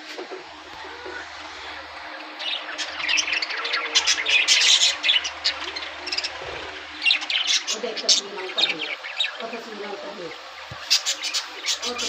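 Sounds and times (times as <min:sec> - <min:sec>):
budgerigars chirping: 0:00.6 - 0:12.0.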